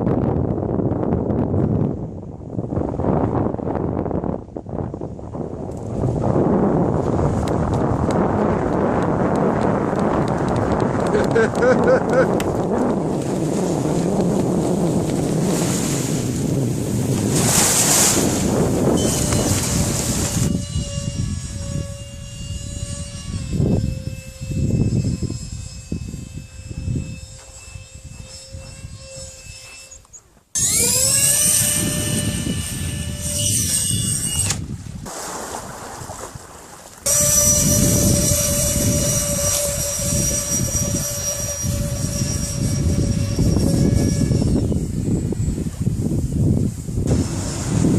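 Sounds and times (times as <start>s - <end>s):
electric fan high whine: 0.0s - 34.8s, 37.0s - 47.9s
wind buffeting microphone: 0.0s - 47.9s.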